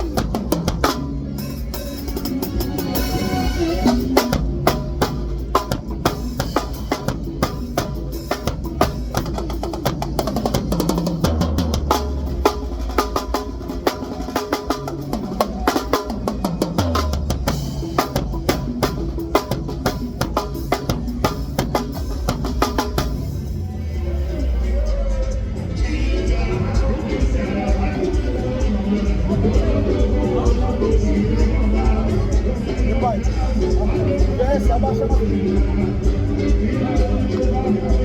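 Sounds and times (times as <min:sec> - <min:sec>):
band playing: 0:00.0 - 0:38.0
drum kit playing: 0:00.0 - 0:38.0.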